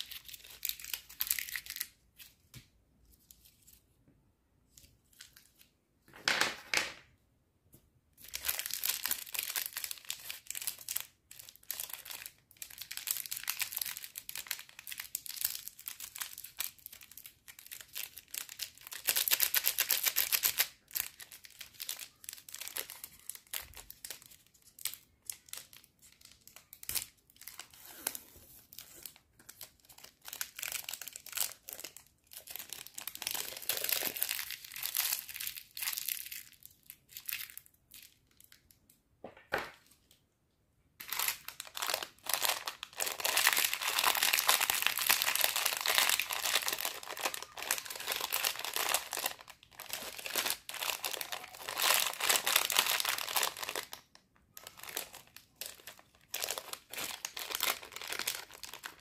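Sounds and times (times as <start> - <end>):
plastic wrapper crinkling: 0.0 - 3.8, 8.2 - 38.9, 41.0 - 59.0.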